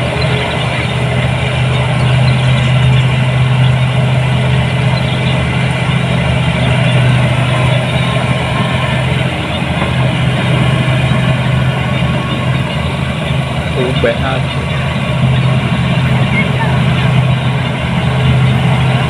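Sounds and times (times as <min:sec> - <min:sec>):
combine harvester engine humming: 0:00.0 - 0:19.0.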